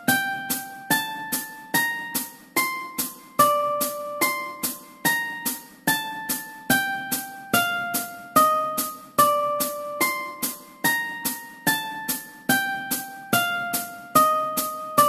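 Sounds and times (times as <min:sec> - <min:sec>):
mandolin melody: 0:00.0 - 0:15.0.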